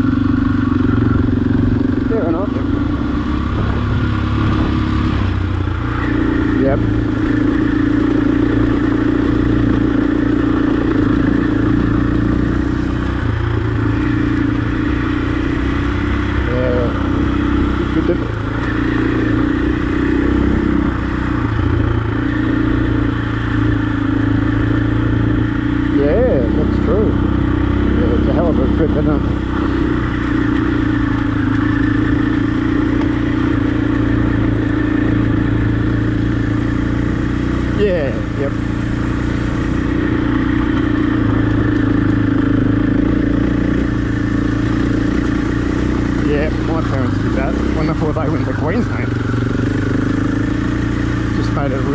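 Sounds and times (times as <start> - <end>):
dirt bike engine running: 0.0 - 51.9.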